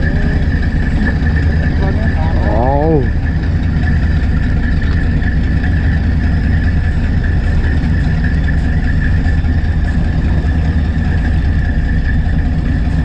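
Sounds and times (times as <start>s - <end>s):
boat engine drone: 0.0s - 13.0s
steady engine whine: 0.0s - 13.0s.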